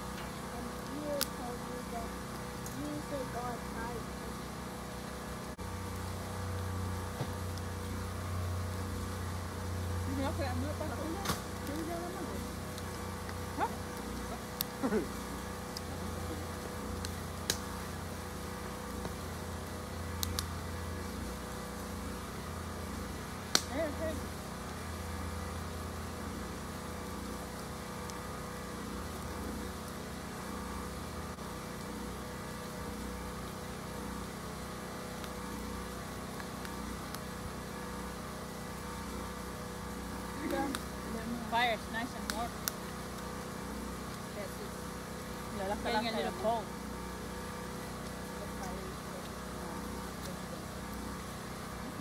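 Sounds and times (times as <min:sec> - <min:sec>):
generator droning: 0:00.0 - 0:52.0
low mechanical hum: 0:00.0 - 0:52.0.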